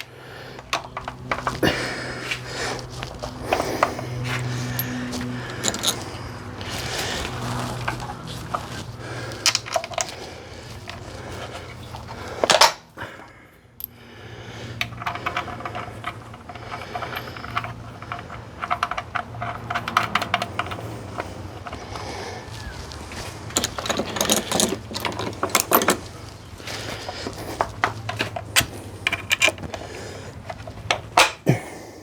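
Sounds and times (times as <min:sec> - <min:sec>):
metal tools clinking: 0:00.0 - 0:31.6.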